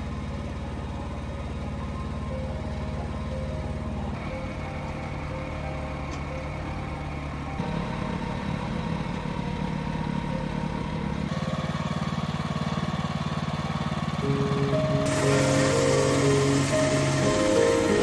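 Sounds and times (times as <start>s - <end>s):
background music: 0.0s - 11.9s, 13.6s - 18.0s
engine running: 0.0s - 18.0s.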